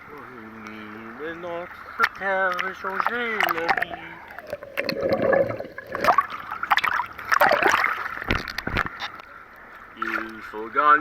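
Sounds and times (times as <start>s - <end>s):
water splashes: 0.7s - 9.2s, 9.9s - 10.7s
water sloshing and gurgling: 0.7s - 10.6s.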